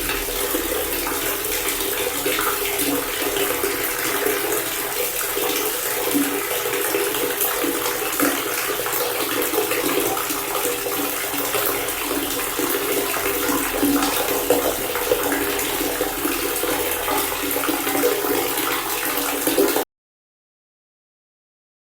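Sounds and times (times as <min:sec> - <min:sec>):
water pouring from faucet: 0:00.0 - 0:19.8.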